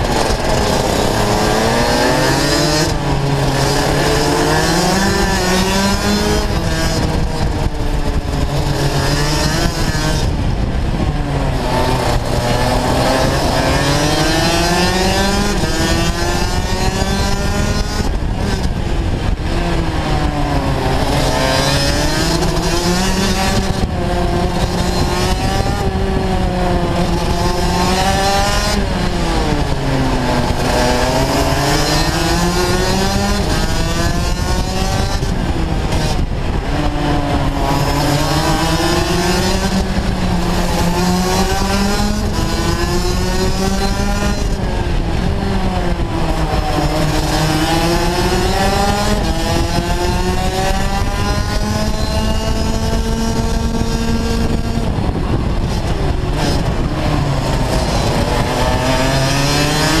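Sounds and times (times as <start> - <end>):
kart engine revving: 0.0 - 60.0.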